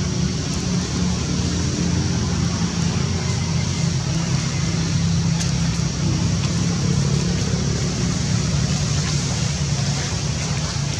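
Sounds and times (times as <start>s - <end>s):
constant hiss: 0.0s - 10.9s
low engine-like hum: 0.0s - 10.9s.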